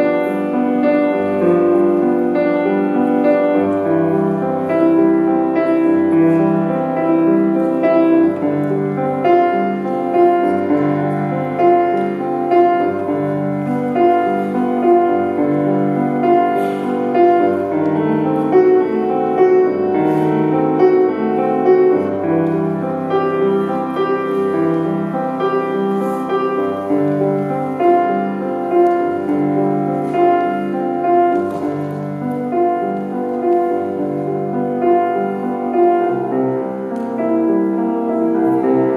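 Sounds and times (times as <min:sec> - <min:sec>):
grand piano playing: 0:00.0 - 0:38.9.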